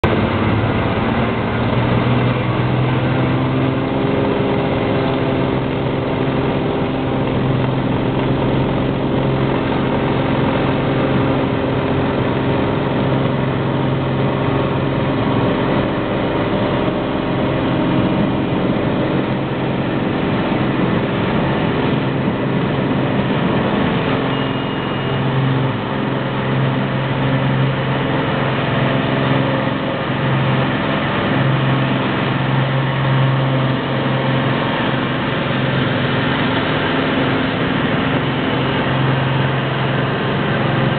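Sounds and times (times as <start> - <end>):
propeller plane engine at low power: 0.0 - 40.9.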